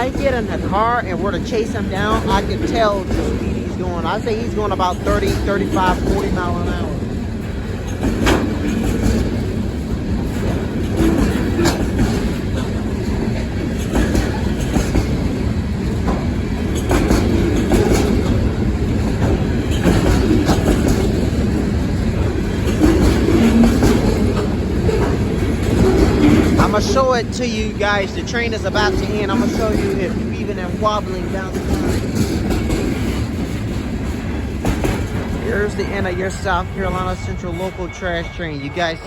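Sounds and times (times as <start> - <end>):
freight train rumbling: 0.0 - 39.0
train wheels clacking: 0.0 - 39.0.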